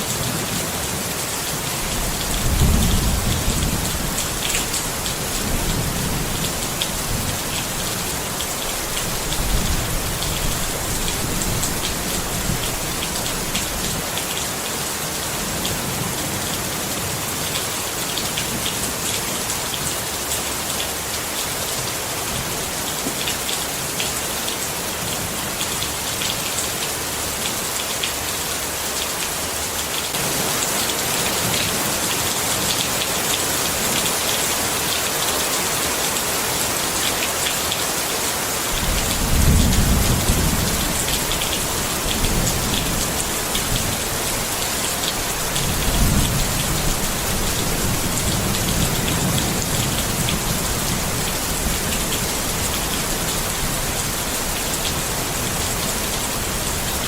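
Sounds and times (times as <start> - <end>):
rain pattering on a tent: 0.0 - 57.0.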